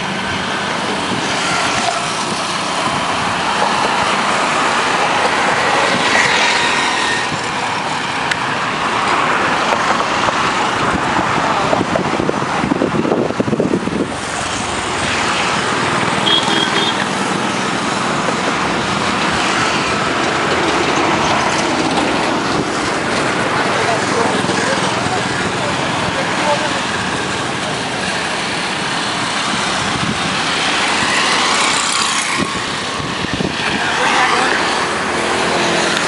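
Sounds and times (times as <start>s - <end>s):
road traffic on bridge: 0.0s - 36.0s.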